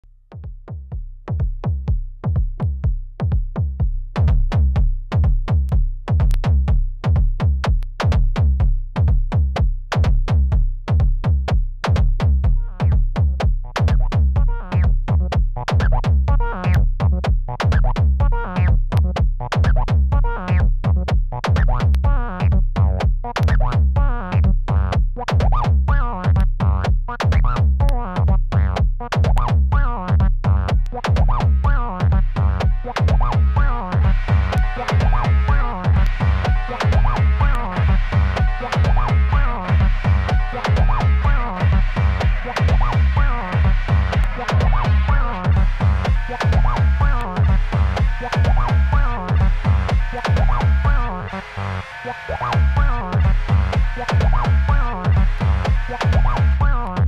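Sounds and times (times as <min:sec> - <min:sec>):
acid bass line: 0:00.2 - 0:57.0
electronic kick drum beat: 0:00.3 - 0:57.0.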